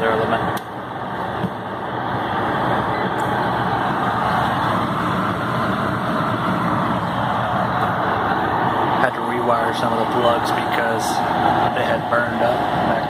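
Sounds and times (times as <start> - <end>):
furnace blower running: 0.0 - 13.0.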